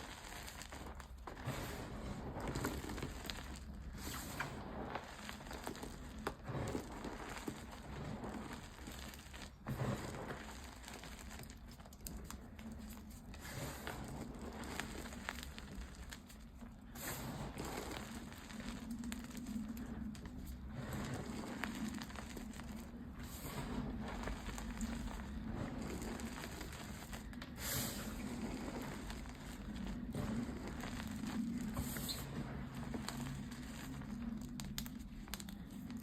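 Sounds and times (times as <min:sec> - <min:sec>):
chalk crunching: 0:00.0 - 0:36.0.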